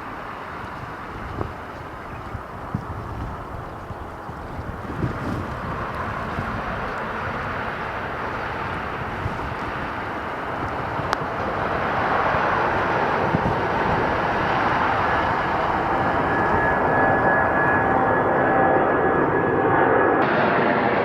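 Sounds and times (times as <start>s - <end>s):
jet engines rushing: 0.0s - 21.0s
thin engine whines: 0.0s - 21.0s.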